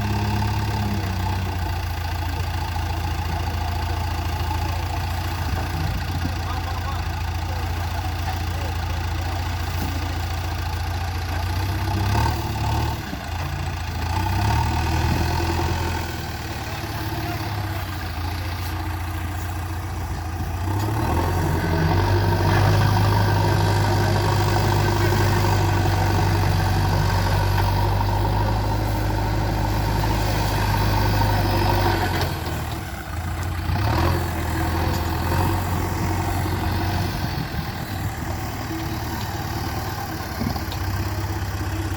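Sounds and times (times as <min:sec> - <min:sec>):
diesel engine revving: 0:00.0 - 0:41.9.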